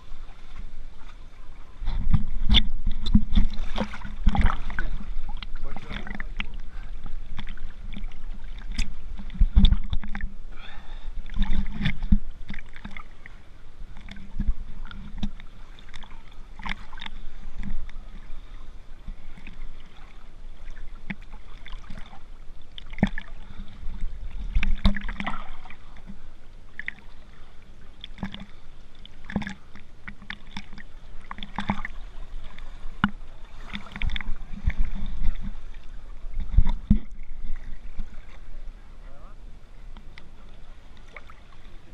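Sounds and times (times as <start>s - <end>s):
water lapping and sloshing: 0.0s - 41.9s
small splashes: 1.9s - 38.5s.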